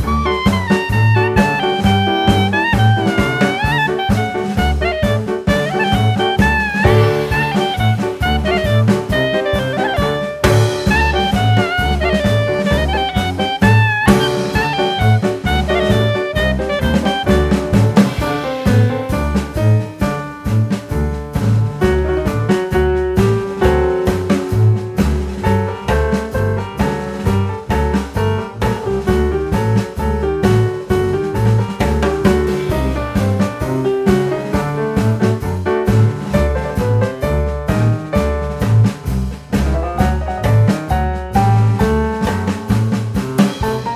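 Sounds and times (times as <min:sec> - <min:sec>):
upbeat jazz music: 0:00.0 - 0:43.9.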